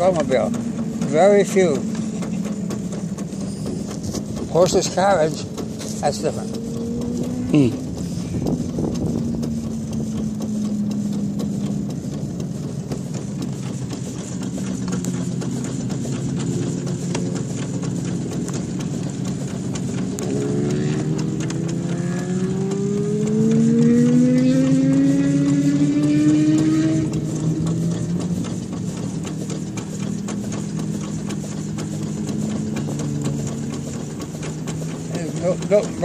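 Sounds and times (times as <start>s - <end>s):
motorcycle engines racing: 0.0s - 36.0s
steam car rolling on pavement: 0.0s - 36.0s.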